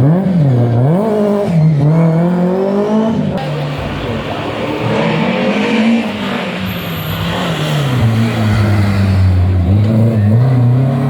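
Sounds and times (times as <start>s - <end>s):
rally car engine under load: 0.0s - 11.0s.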